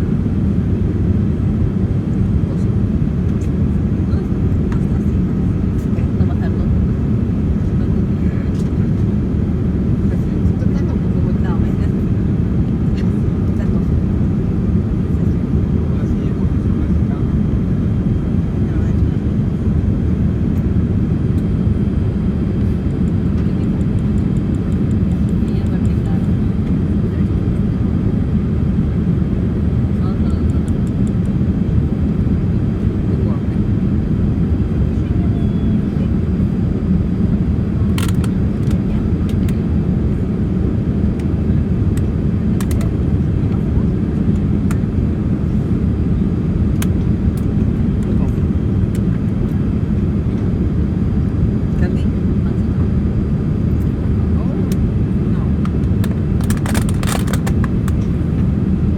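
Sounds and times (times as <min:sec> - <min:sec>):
aircraft cabin engine rumble: 0:00.0 - 0:58.9.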